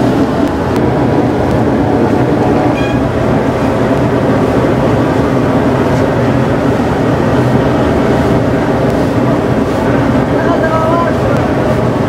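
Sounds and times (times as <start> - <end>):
machine rumble with low hum: 0.0 - 12.0.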